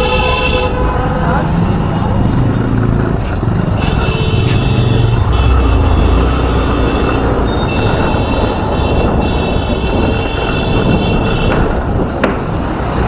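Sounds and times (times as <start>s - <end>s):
motorcycle rumble: 0.0s - 13.0s
wind and road noise: 0.0s - 13.0s.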